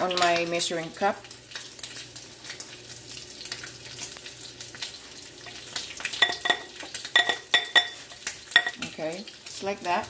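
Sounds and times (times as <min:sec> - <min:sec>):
bacon sizzling in a pan: 0:00.0 - 0:10.0.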